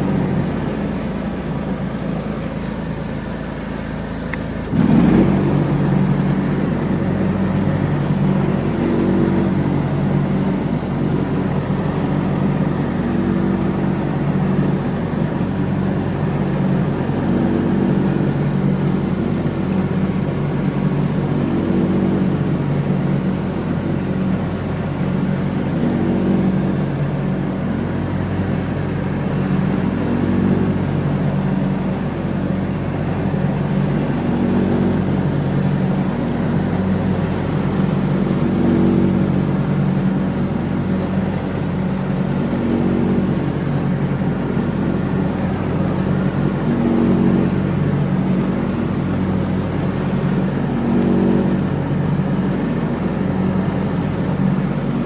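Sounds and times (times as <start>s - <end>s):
lawn tractor engine running: 0.0s - 55.0s.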